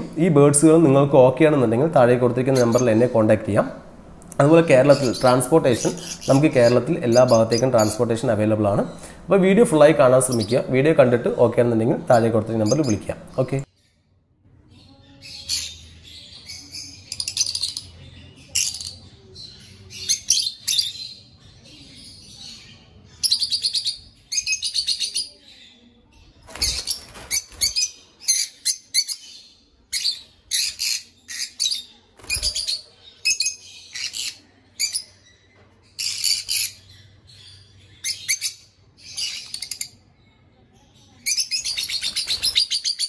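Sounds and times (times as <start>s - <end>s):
lovebirds chirping: 0.0s - 43.0s.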